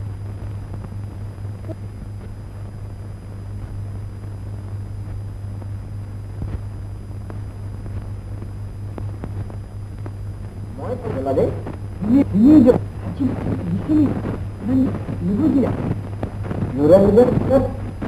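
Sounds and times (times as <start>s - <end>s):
crackles and clicks: 0.0s - 18.0s
low hum: 0.0s - 18.0s.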